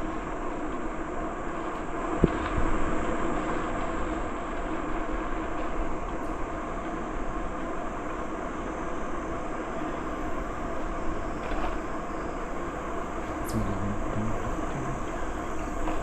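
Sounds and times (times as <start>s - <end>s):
bicycle tyres rolling on trail: 0.0s - 16.0s.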